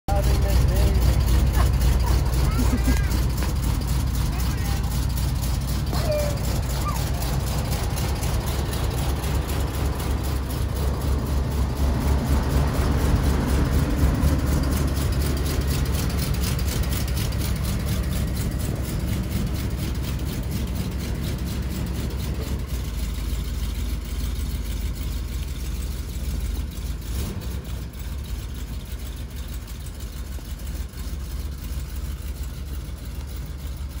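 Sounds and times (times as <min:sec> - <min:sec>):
engine idling with low rumble: 0:00.0 - 0:34.0.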